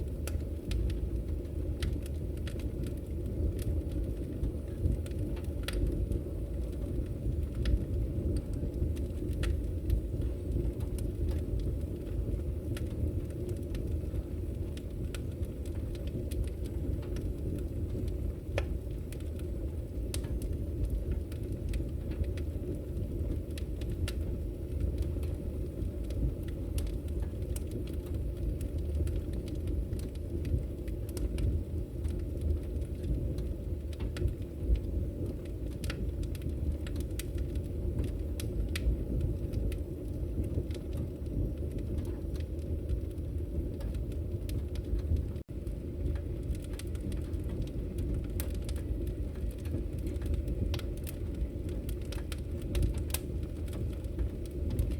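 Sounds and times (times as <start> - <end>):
fire rumbling: 0.0 - 54.9
firewood crackling: 0.0 - 54.9.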